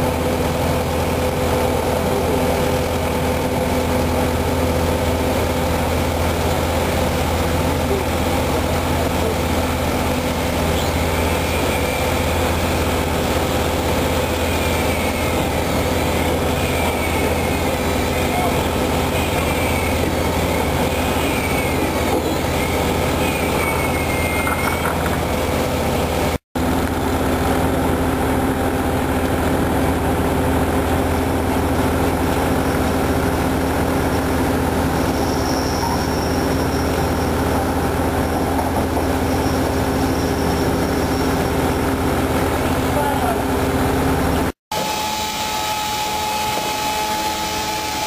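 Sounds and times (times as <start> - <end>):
diesel engine hum: 0.0 - 44.6
wavering high whine: 0.0 - 48.0.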